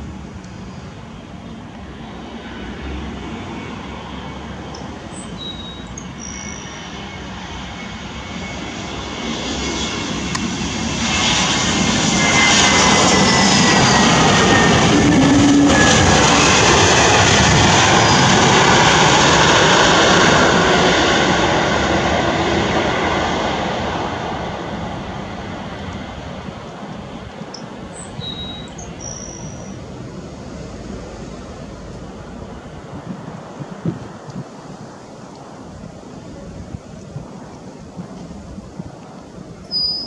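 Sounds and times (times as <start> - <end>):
jet engines landing: 0.0 - 40.0.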